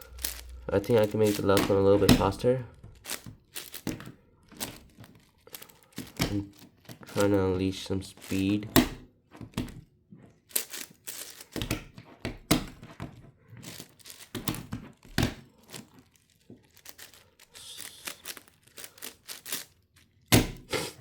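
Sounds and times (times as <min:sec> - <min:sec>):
puzzle cube plastic clicks: 0:00.0 - 0:07.4, 0:10.4 - 0:20.7.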